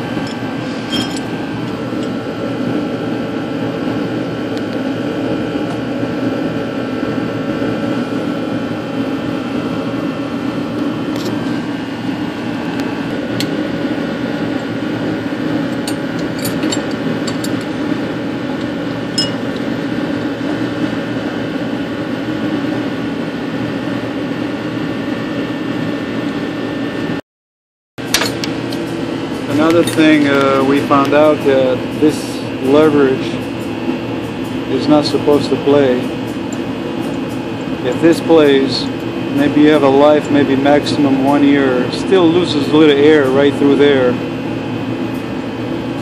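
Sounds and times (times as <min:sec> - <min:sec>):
machine humming: 0:00.0 - 0:27.2, 0:28.0 - 0:46.0.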